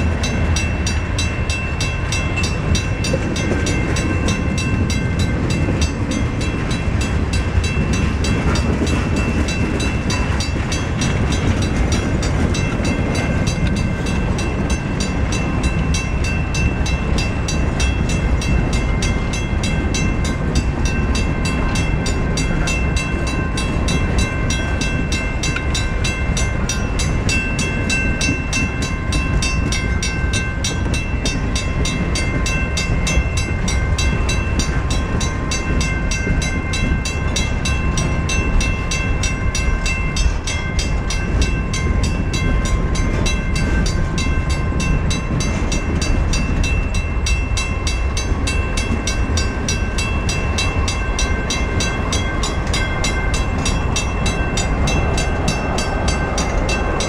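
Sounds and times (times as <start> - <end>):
steel wheels clattering on rail: 0.0 - 57.0.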